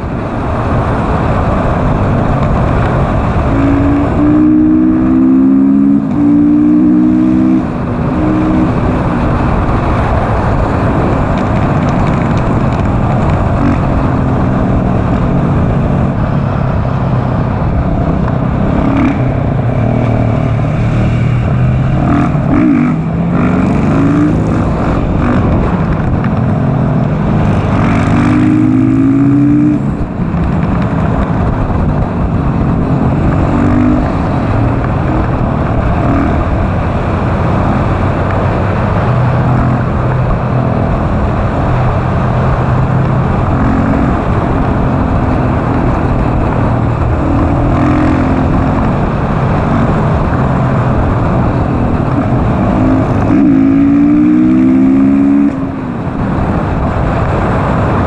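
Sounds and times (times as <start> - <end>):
motorcycle engine accelerating hard: 0.0 - 58.0
wind rushing: 0.0 - 58.0.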